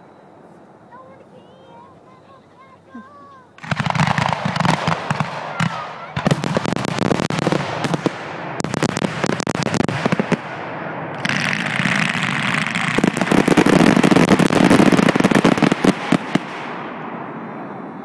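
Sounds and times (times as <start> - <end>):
continuous hissing crackle: 0.0 - 18.0
fireworks crackling and popping: 2.1 - 17.2.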